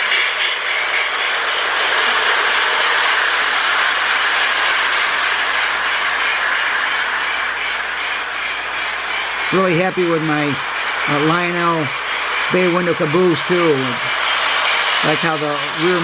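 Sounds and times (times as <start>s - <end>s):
toy train motor and wheels: 0.0s - 16.0s
toy train steam chuff: 0.0s - 16.0s.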